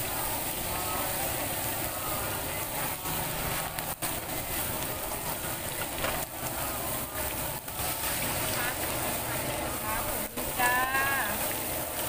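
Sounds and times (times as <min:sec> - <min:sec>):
deep-frying oil sizzling: 0:00.0 - 0:12.0.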